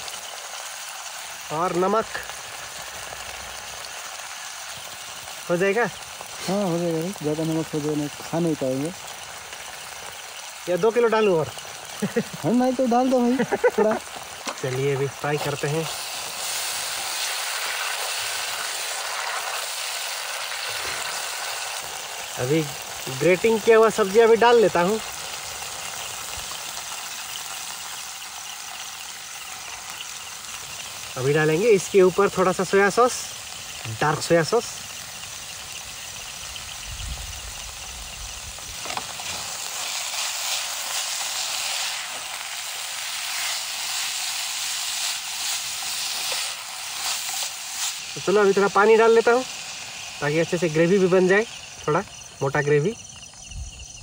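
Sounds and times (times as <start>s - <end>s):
food sizzling: 0.0s - 54.0s.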